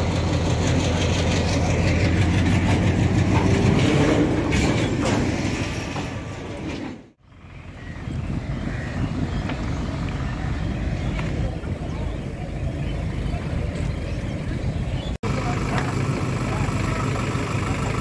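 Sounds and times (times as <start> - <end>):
low train hum: 0.0 - 18.0
train rumble: 0.0 - 18.0.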